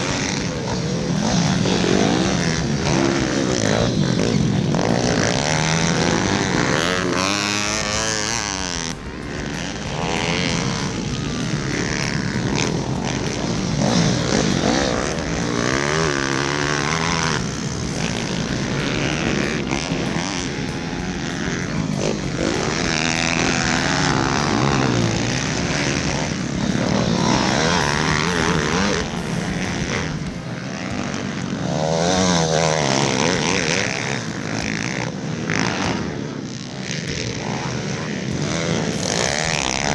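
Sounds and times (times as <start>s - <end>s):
motorbike engines revving: 0.0s - 39.9s.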